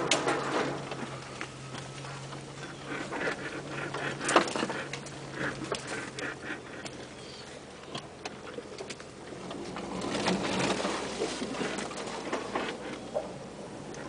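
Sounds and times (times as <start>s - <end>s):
vehicle body knocks and creaks: 0.0s - 7.2s, 7.8s - 13.6s
branches scraping car body: 0.0s - 13.8s
faint low engine hum: 0.0s - 14.0s.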